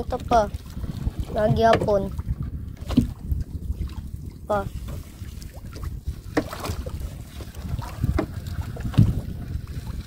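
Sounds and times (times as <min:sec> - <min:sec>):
low rumble: 0:00.0 - 0:10.0
wind buffeting microphone: 0:00.0 - 0:10.0.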